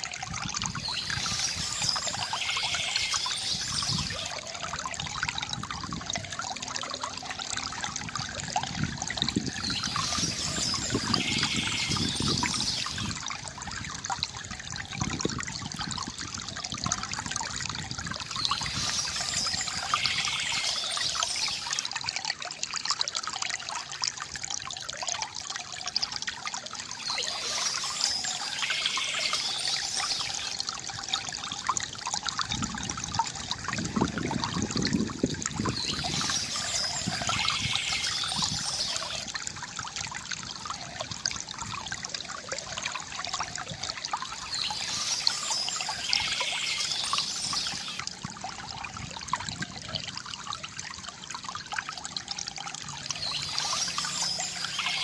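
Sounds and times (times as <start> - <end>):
water trickling from bamboo fountain: 0.0 - 55.0.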